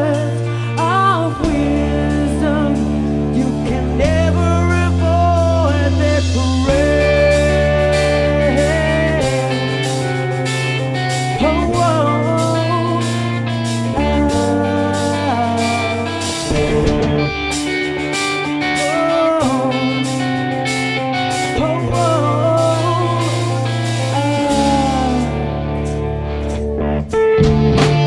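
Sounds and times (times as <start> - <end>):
bass notes: 0.0 - 28.0
electric guitar gliding notes: 0.0 - 28.0
steady drum beat: 0.2 - 28.0.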